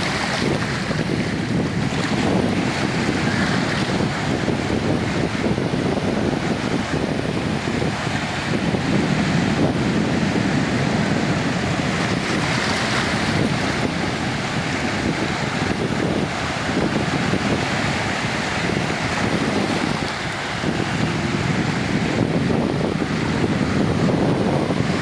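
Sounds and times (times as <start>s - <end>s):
sea waves breaking on beach: 0.0s - 25.0s
wind buffeting microphone: 0.0s - 25.0s.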